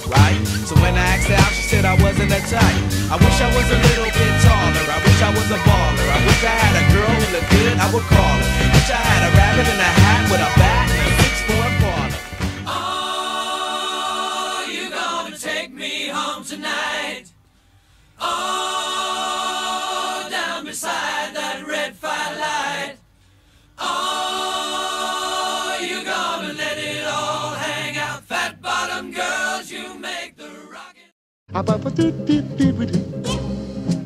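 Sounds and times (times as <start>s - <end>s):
choir singing held chords: 0.0s - 17.4s, 18.1s - 31.1s.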